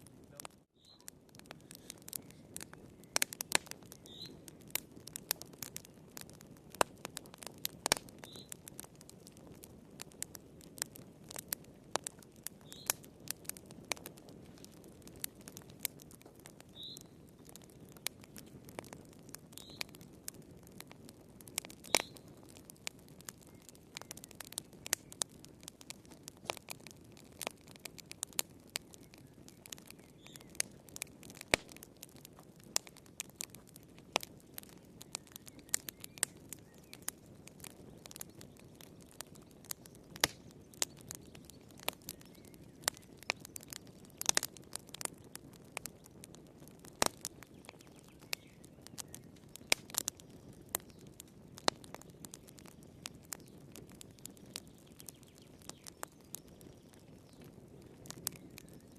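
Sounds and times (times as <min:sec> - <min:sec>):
low hiss of burning: 0:00.0 - 0:58.9
wood fire crackling and popping: 0:00.0 - 0:58.9.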